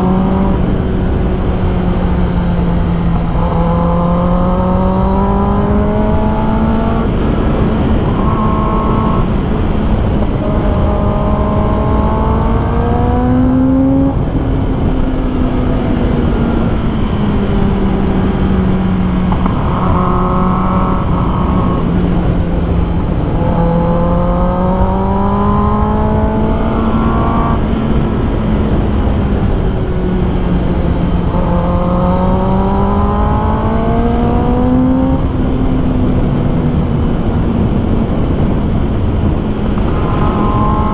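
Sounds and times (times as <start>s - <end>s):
motorcycle engine revving: 0.0s - 40.9s
rushing wind noise: 0.0s - 40.9s.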